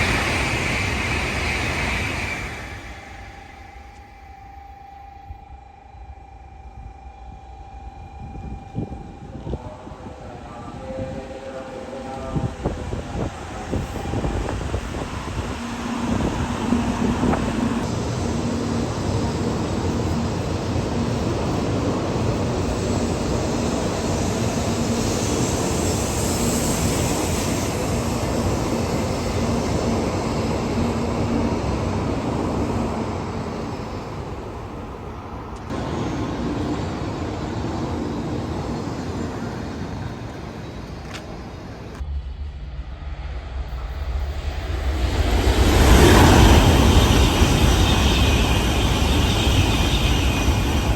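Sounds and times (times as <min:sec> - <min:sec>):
train rushing at speed: 0:00.0 - 0:50.9.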